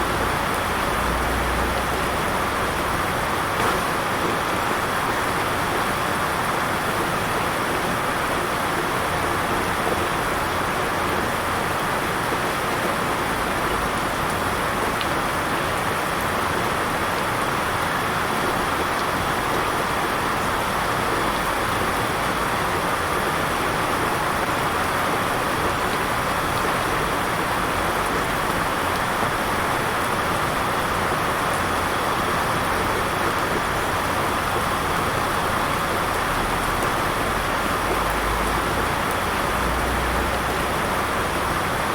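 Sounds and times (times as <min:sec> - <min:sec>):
heavy rain downpour: 0:00.0 - 0:41.9.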